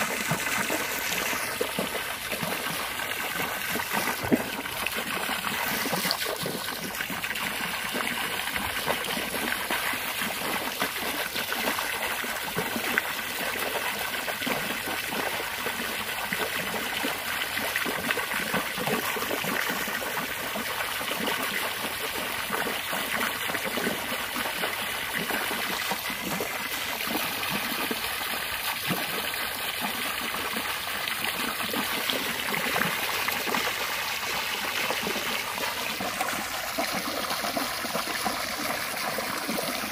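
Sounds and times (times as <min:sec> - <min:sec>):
hose water splashing into pool: 0:00.0 - 0:39.9.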